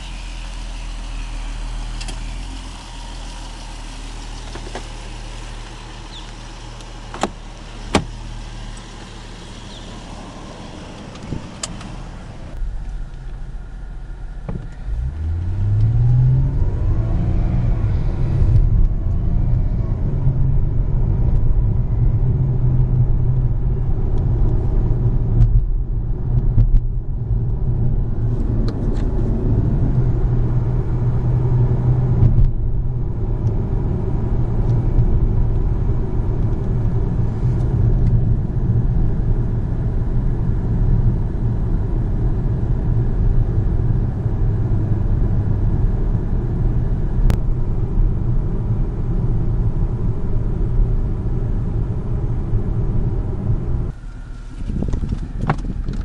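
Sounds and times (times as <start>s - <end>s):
car engine drone: 0.0s - 56.0s
road rumble: 0.0s - 56.0s.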